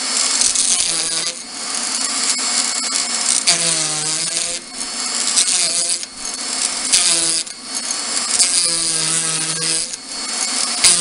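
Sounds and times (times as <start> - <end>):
rotary tool grinding wood: 0.0 - 11.0.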